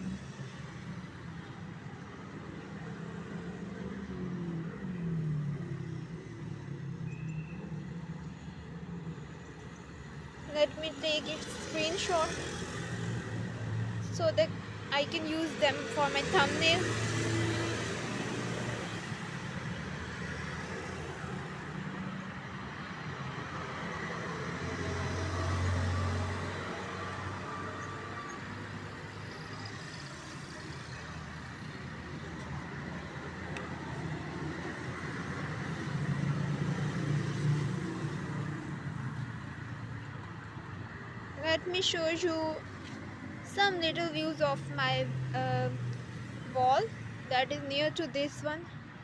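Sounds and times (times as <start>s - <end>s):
hum of passing vehicles: 0.0s - 49.0s.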